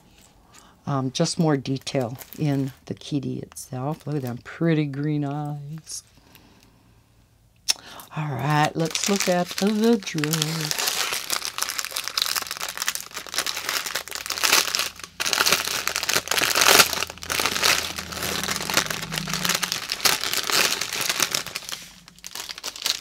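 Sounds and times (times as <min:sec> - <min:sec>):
plastic bags crinkling: 0:01.2 - 0:04.6, 0:07.8 - 0:23.0.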